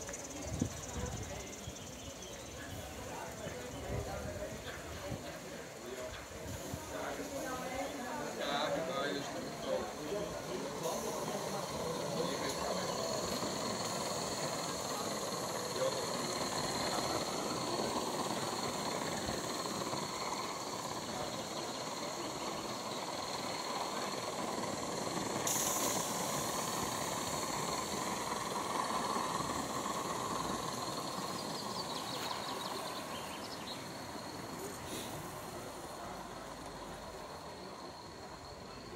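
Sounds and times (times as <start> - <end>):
steam locomotive chuffing: 0.0 - 38.9.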